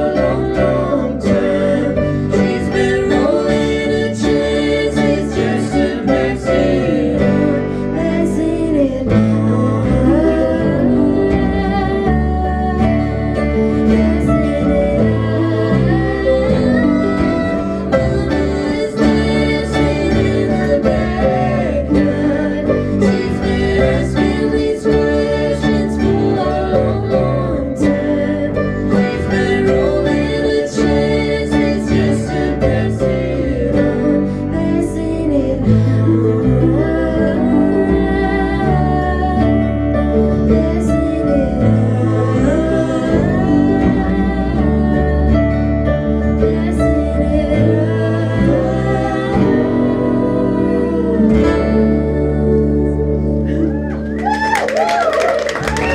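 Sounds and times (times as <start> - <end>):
deep bass line: 0.0 - 55.9
person singing: 0.0 - 55.9.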